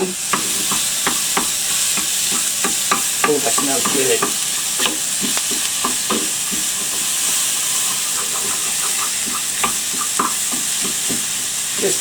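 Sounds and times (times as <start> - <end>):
vegetables sizzling in a frying pan: 0.0 - 12.0
wooden spoon scraping a pan: 0.0 - 12.0.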